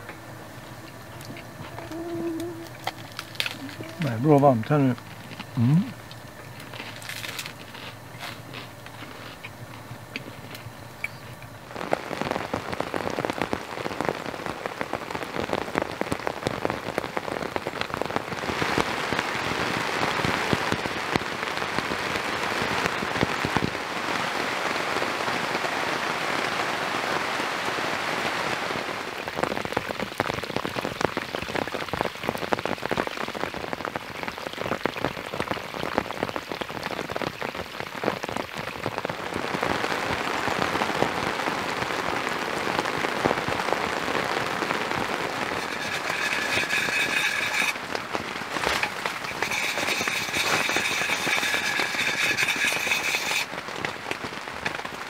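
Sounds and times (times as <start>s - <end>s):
heavy rain on tent fabric: 0.0s - 55.0s.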